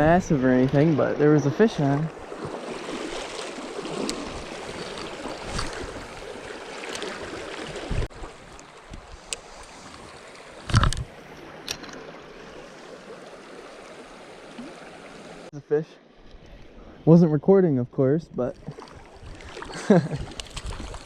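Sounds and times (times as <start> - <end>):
river water flowing: 0.0 - 16.8, 18.6 - 21.0.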